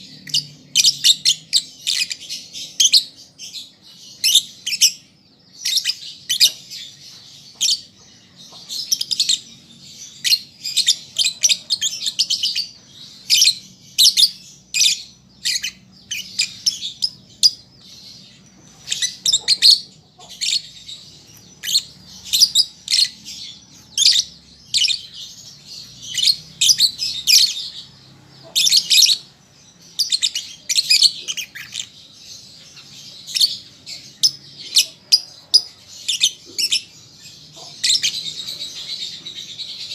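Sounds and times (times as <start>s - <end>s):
lovebird chattering: 0.0s - 3.2s, 7.6s - 39.9s.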